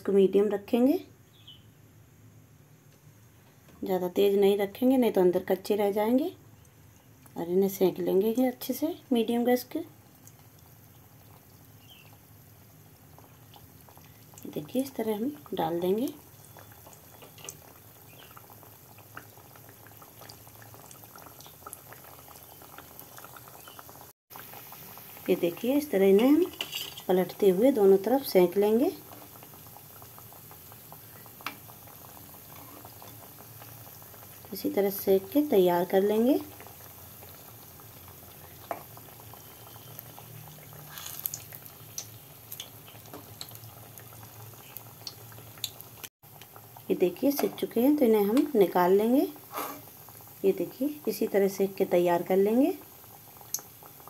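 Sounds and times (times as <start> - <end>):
dough deep-frying in oil: 3.7 - 54.0.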